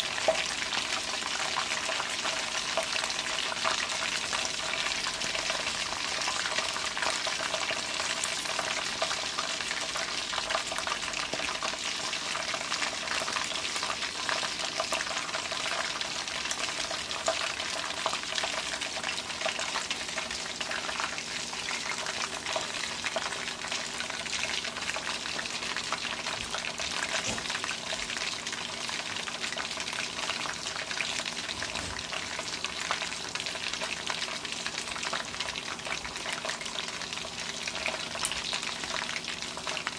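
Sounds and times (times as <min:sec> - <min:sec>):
chicken sizzling in hot oil: 0:00.0 - 0:39.9
crackling bubbling oil: 0:00.0 - 0:39.9.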